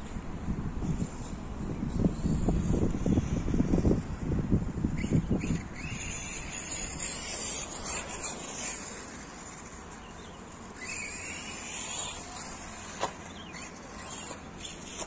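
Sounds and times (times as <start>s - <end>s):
outdoor background noise: 0.0s - 15.0s
remote control car motor whine: 0.9s - 15.0s.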